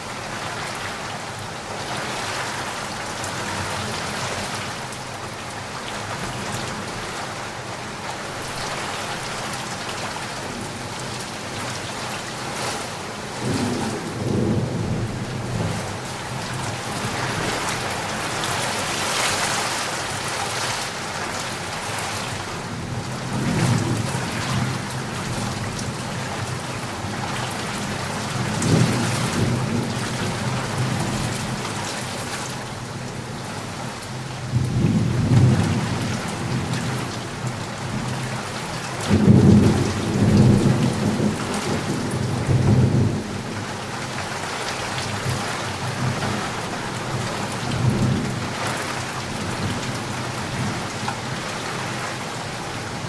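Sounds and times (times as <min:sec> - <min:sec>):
heavy rainfall: 0:00.0 - 0:53.0.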